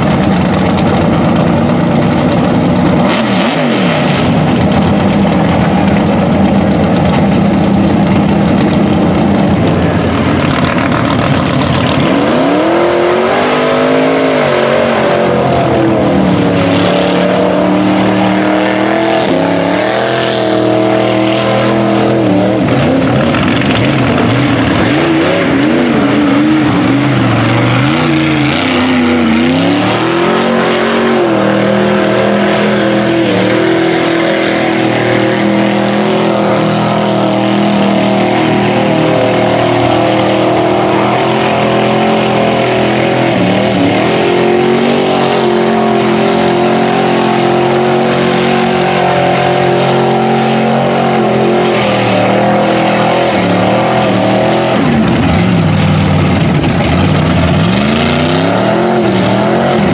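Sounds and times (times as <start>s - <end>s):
truck engine revving high: 0.0s - 59.9s.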